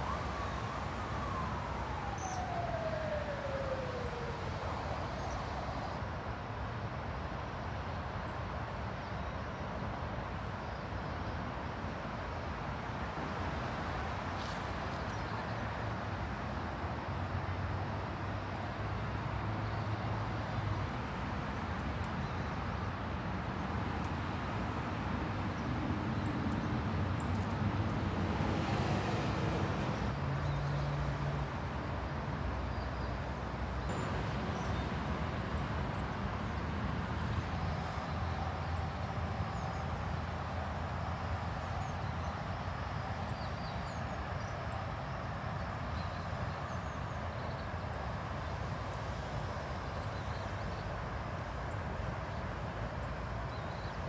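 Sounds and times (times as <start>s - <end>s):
distant traffic rumble: 0.0s - 9.0s, 9.6s - 54.0s.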